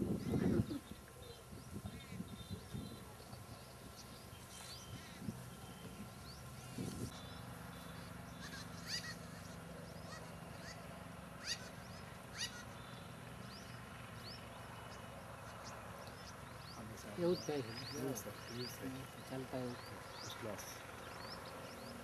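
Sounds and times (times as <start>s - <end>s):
birds chirping: 0.0s - 22.0s
steady low hum: 0.0s - 22.0s.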